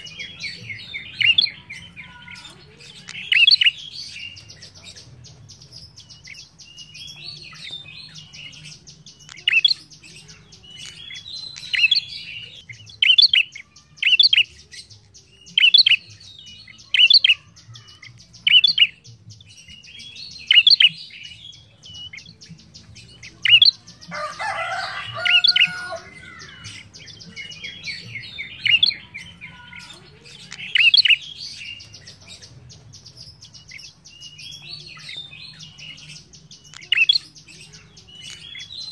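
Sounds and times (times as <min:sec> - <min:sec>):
bird chattering: 0:00.0 - 0:19.0, 0:19.6 - 0:38.9.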